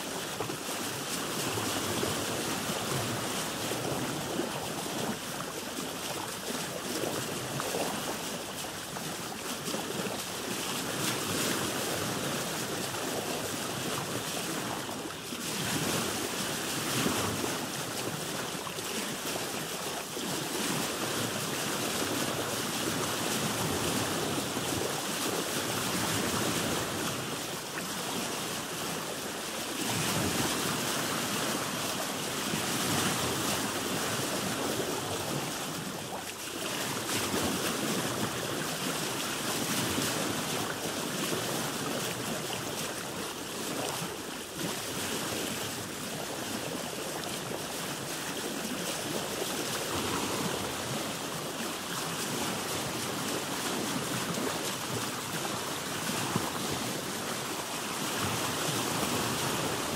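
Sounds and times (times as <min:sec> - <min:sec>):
water splashing against boat hull: 0:00.1 - 0:59.9.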